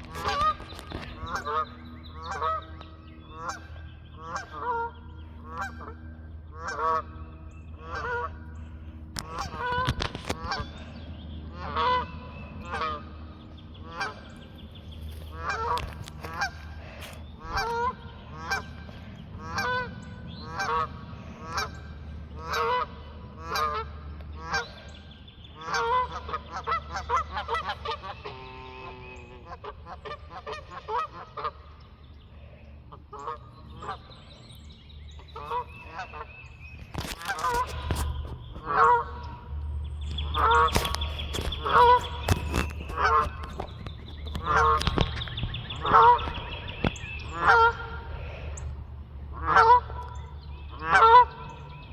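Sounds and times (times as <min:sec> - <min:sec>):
geese honking: 0:00.0 - 0:51.9.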